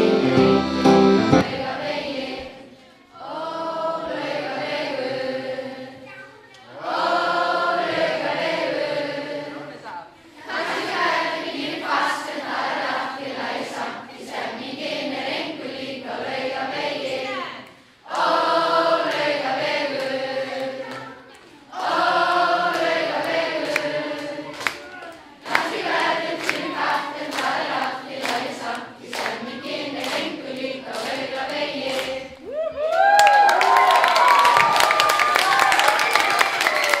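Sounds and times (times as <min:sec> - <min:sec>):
crowd singing a song: 0:00.0 - 0:06.0, 0:06.7 - 0:24.8, 0:25.4 - 0:32.4.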